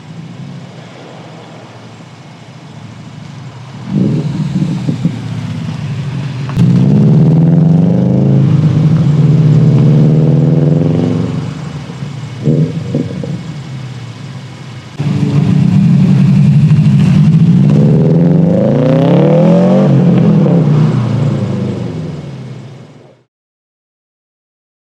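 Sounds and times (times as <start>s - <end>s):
car engine revving through exhaust: 0.0s - 23.2s.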